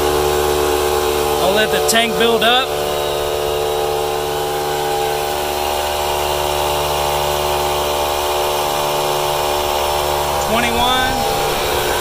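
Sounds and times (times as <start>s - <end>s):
air compressors droning: 0.0s - 12.0s.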